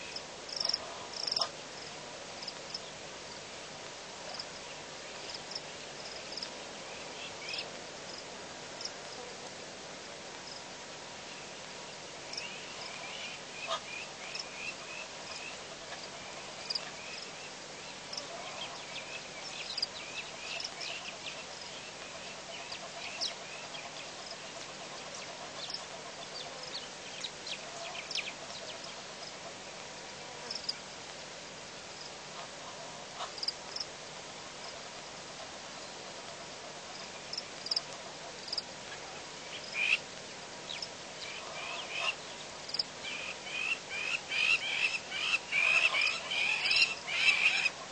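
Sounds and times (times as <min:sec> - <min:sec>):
insects buzzing: 0:00.0 - 0:09.0, 0:11.9 - 0:32.5, 0:36.8 - 0:38.7, 0:39.4 - 0:47.7.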